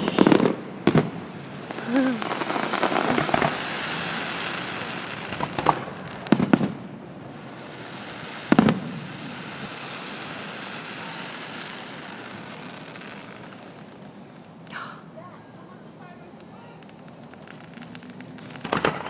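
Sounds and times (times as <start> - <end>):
fireworks bangs: 0.0 - 19.0
steady hiss: 0.0 - 19.0.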